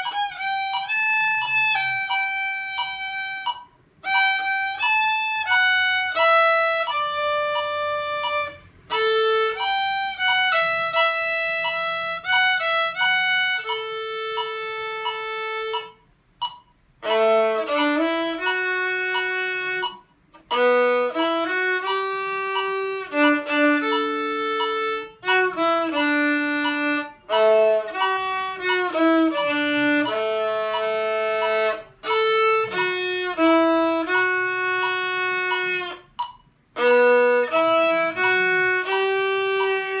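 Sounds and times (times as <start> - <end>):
solo violin slow melody: 0.0 - 16.0, 17.0 - 40.0.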